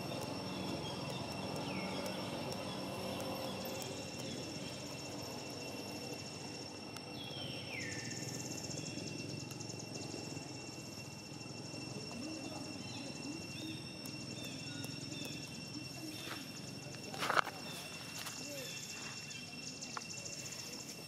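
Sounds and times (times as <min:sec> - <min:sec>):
steady high-pitched buzz: 0:00.0 - 0:21.0.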